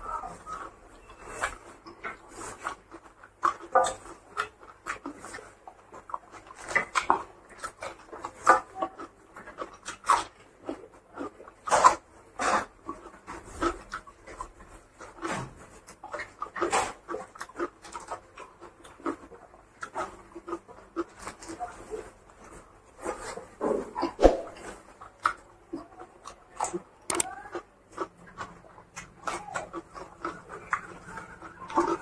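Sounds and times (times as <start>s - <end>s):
fingers squishing rice: 0.0s - 32.0s
man chewing and lip-smacking: 0.0s - 32.0s.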